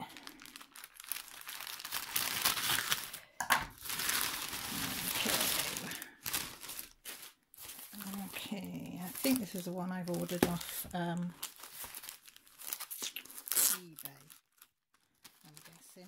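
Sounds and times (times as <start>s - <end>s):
plastic mailer bag crinkling: 0.0s - 16.0s.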